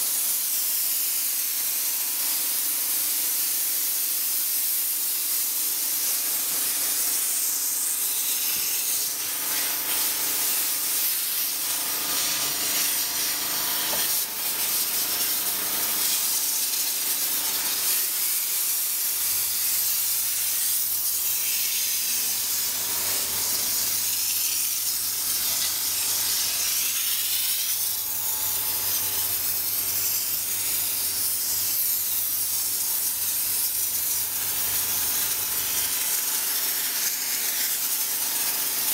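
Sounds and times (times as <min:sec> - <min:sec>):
steam cleaner hissing: 0:02.6 - 0:36.3.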